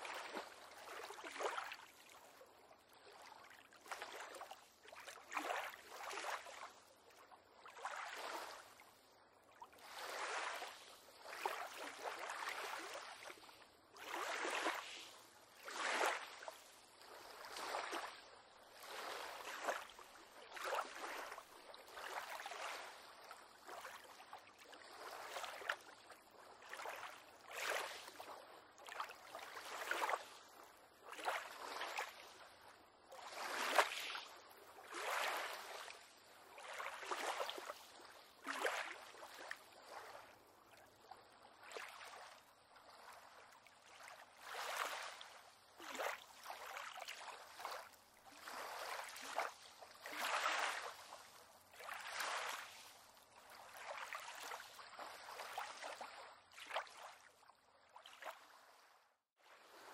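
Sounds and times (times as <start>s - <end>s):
small waves lapping against pier: 0.0s - 59.9s.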